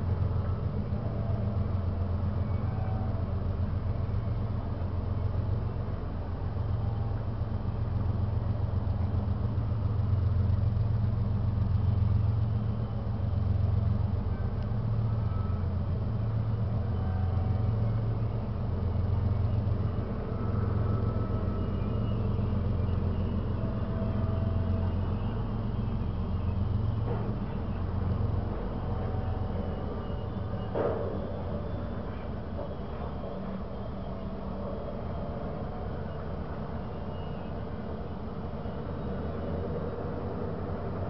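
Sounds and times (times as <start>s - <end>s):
distant low engine rumble: 0.0s - 41.0s.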